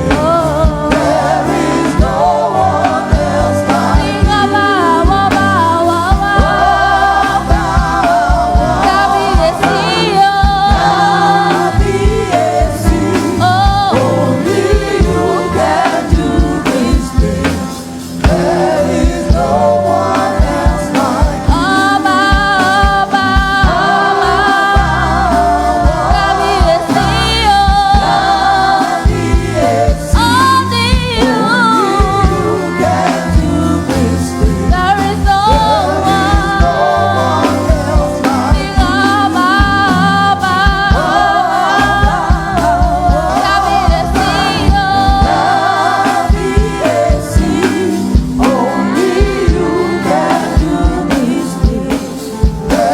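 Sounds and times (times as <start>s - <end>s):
bass and drums: 0.0s - 52.9s
group singing a gospel song: 0.0s - 52.9s.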